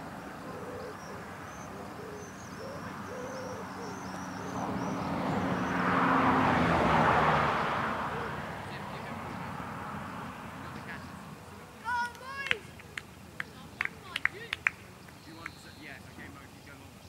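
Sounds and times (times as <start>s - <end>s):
birds cooing: 0.0s - 14.2s.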